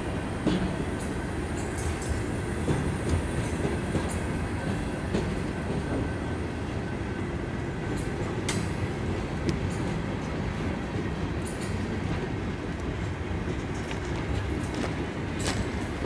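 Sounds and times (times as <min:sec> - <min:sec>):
freight train wheels rumbling: 0:00.0 - 0:16.0
train clicks and knocks: 0:00.1 - 0:06.9, 0:07.6 - 0:16.0.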